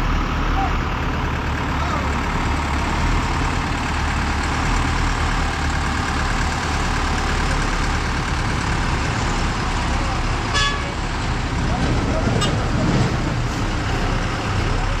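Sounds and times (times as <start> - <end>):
heavy vehicle engine rumble: 0.0 - 15.0
road noise: 0.0 - 15.0.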